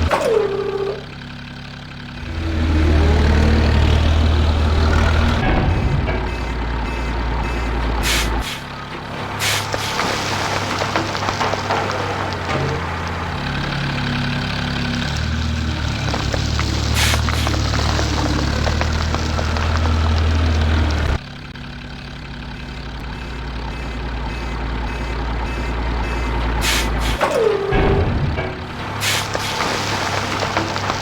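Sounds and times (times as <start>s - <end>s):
truck engine droning: 0.0s - 31.0s.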